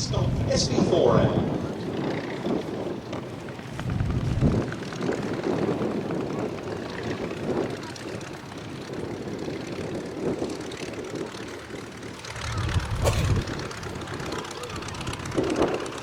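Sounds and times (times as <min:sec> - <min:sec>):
biplane engine and propeller: 0:00.0 - 0:16.0
wind buffeting microphone: 0:00.0 - 0:16.0.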